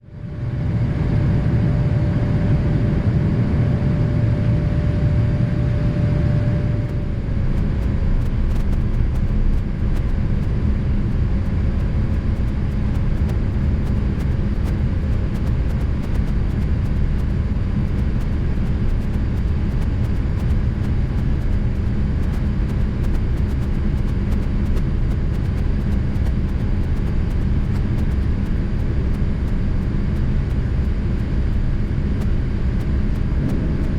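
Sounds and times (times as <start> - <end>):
airliner cabin rumble: 0.2 - 33.9.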